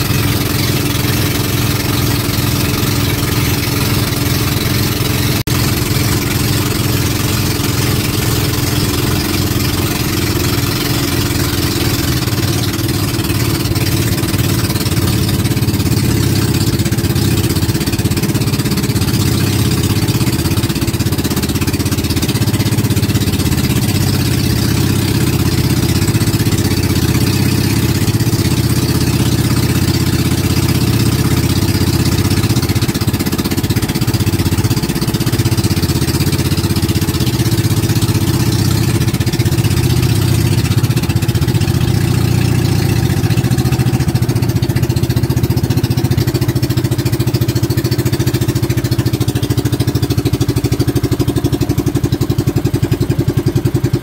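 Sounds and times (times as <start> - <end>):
boat engine running: 0.0 - 54.0
water rushing past hull: 0.0 - 54.0.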